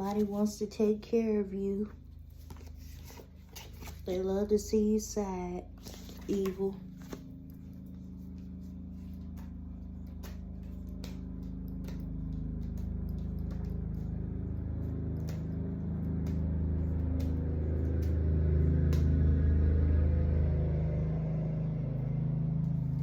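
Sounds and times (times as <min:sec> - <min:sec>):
motor vehicle engine rumble: 0:01.7 - 0:23.0.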